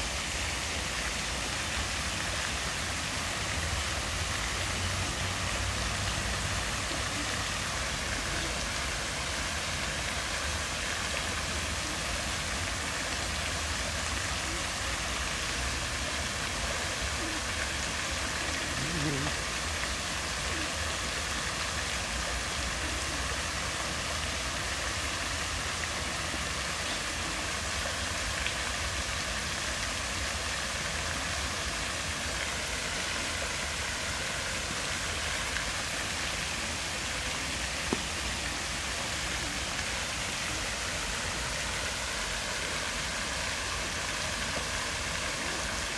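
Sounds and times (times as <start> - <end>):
fountain jets splashing into pool: 0.0 - 45.9.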